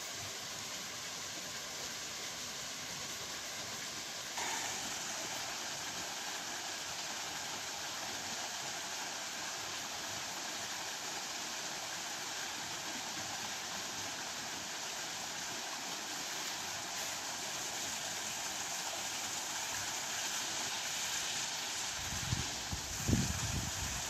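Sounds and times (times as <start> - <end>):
waterfall rushing over rocks: 0.0 - 24.0.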